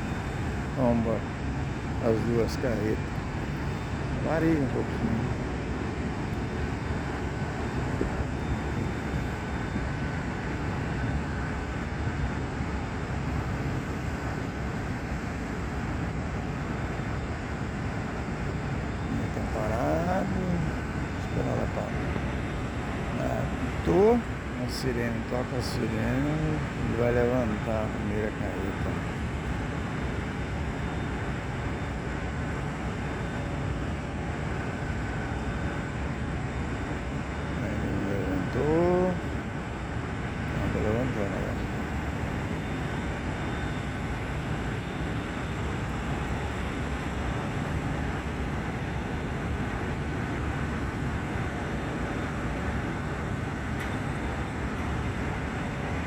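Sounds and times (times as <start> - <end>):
faint high whine: 0.0 - 56.0
low mill machinery rumble: 0.0 - 56.0.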